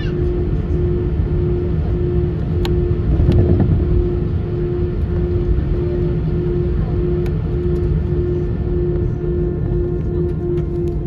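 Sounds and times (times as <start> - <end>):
aircraft cabin low rumble: 0.0 - 11.0
droning hum: 0.0 - 11.0.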